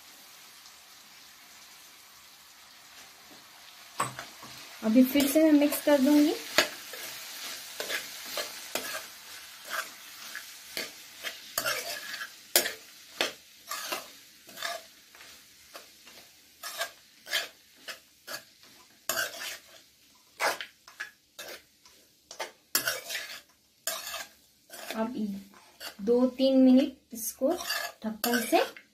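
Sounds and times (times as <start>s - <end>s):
faint sizzle: 0.0s - 28.9s
spoon scraping and tapping pan: 4.0s - 26.1s, 27.5s - 28.9s.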